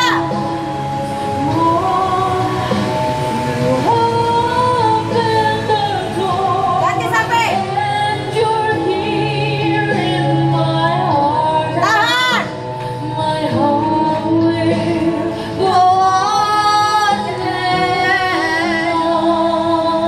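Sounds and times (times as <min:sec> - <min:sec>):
backing music: 0:00.0 - 0:20.0
woman singing with vibrato: 0:00.0 - 0:20.0.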